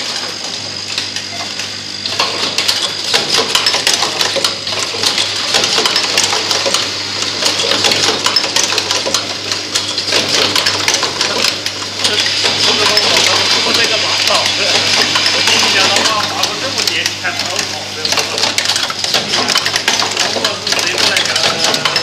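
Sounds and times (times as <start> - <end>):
machine low hum: 0.0 - 22.0
rapid clicking and rattling of parts: 0.0 - 22.0.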